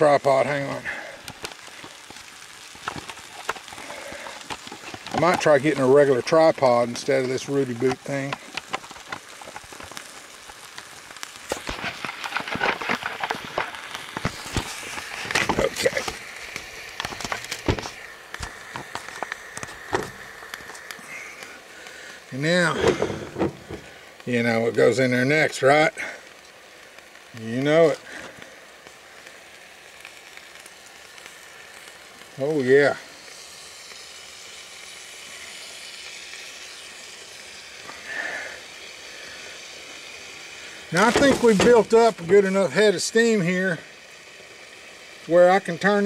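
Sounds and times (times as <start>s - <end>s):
faint steady hiss: 0.0s - 46.0s
food sizzling in a pot: 0.0s - 46.0s.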